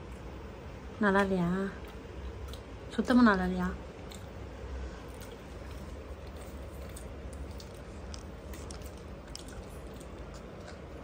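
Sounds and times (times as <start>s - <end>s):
steady low hum: 0.0s - 11.0s
faint chewing: 1.2s - 11.0s.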